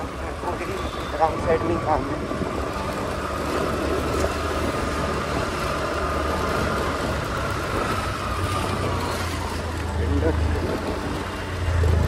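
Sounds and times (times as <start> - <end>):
road and wind hiss: 0.0 - 12.0
scooter engine running: 0.0 - 12.0.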